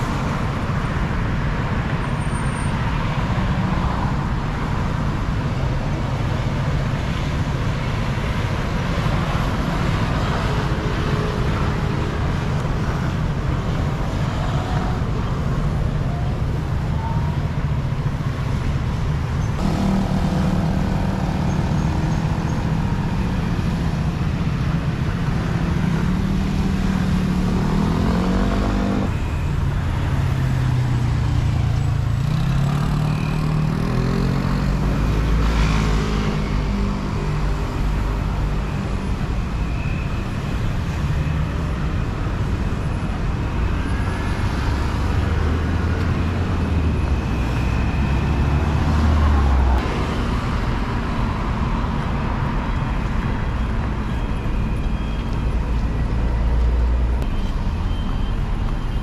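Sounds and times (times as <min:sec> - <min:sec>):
cars and scooters accelerating: 0:00.0 - 0:59.0.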